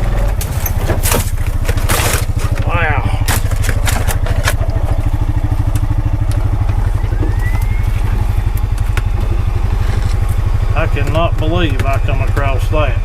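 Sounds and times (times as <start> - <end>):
knocks and clatters: 0.0 - 12.4
utility vehicle engine running: 0.0 - 13.0.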